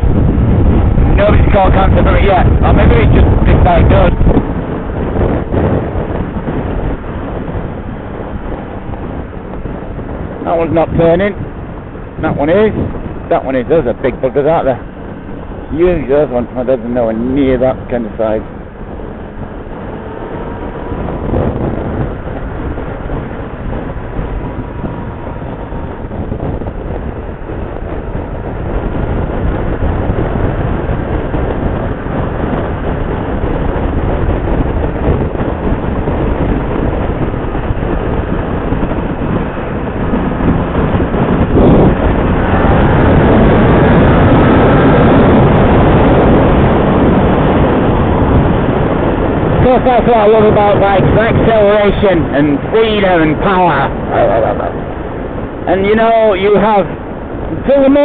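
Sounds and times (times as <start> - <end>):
motorcycle engine: 0.0 - 49.7
wind rush on microphone: 0.0 - 58.0.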